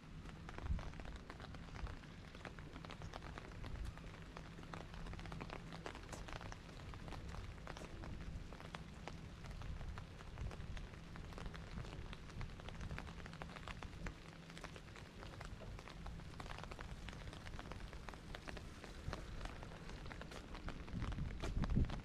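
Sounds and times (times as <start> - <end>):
rain hiss: 0.0 - 22.0
raindrops ticking: 0.0 - 22.0.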